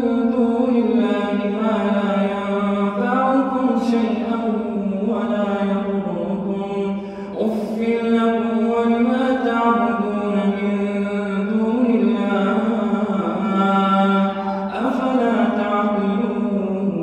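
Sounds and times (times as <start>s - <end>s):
man chanting recitation: 0.0s - 17.0s.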